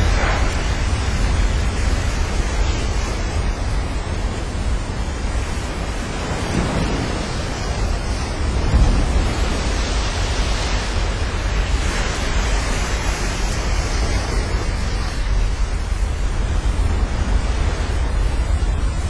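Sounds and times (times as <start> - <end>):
surf breaking rumble: 0.0 - 19.0
wind buffeting microphone: 0.0 - 19.0.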